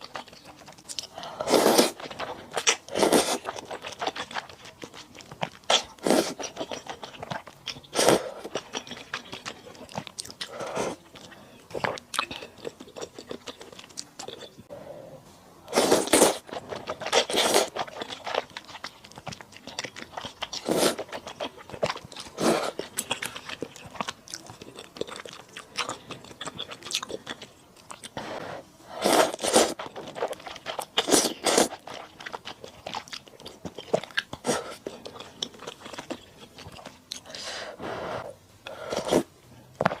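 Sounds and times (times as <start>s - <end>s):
wet chewing and crunching: 0.0s - 14.7s, 15.8s - 28.2s, 29.0s - 37.4s.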